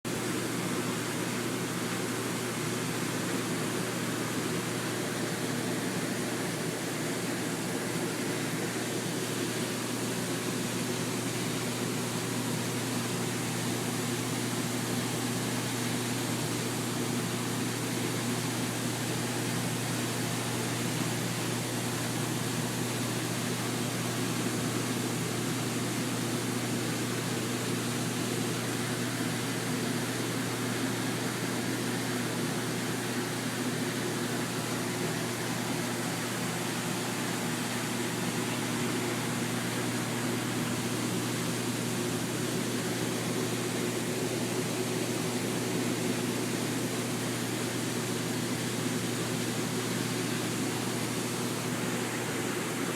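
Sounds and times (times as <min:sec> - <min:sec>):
machine hum with hiss: 0:00.1 - 0:52.9.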